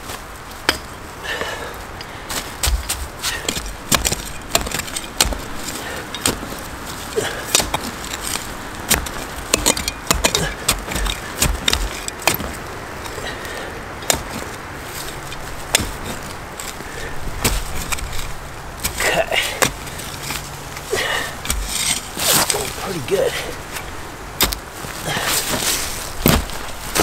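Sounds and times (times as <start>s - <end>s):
digging tool striking soil: 2.6s - 16.8s, 17.4s - 20.4s, 21.0s - 23.0s, 23.7s - 27.0s.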